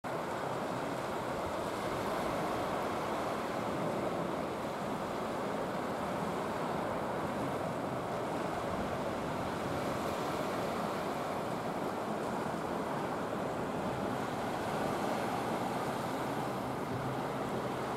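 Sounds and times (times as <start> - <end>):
sea surf: 0.0 - 17.9
wind: 0.0 - 17.9.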